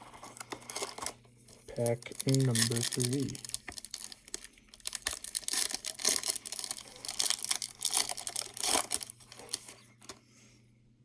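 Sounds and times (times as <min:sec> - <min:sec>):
wrapper tearing and crinkling: 0:00.0 - 0:10.2.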